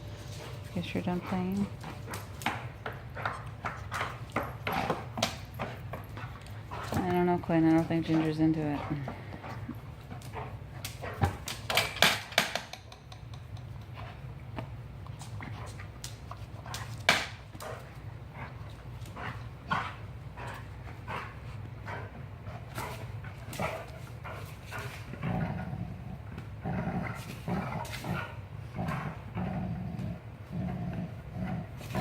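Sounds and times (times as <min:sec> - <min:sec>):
dog play-growls: 0:01.2 - 0:12.2, 0:15.2 - 0:32.0.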